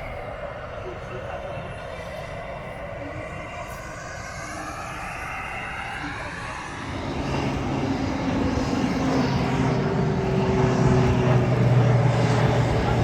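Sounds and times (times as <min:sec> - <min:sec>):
airliner engines roaring: 0:00.0 - 0:13.0.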